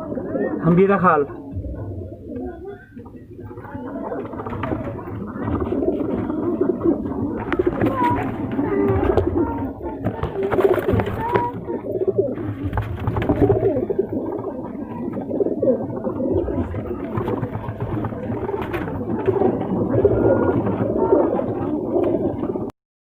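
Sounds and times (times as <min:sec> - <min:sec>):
pigeons cooing: 0:00.0 - 0:22.7.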